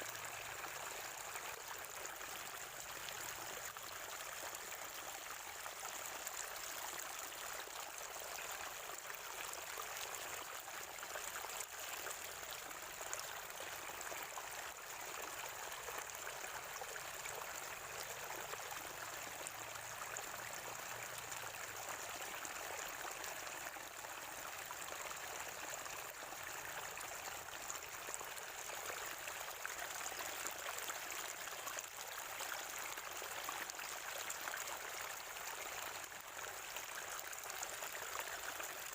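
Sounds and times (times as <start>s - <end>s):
spring water gurgling: 0.0s - 38.9s.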